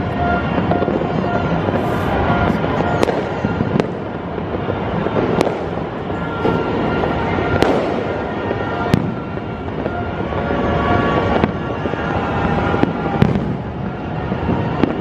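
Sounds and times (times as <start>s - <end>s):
firework bangs: 0.0s - 15.0s
fireworks crackling rumble: 0.0s - 15.0s.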